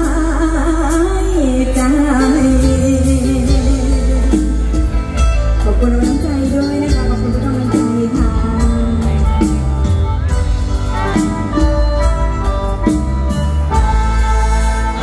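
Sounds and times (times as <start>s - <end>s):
band music over loudspeakers: 0.0s - 15.0s.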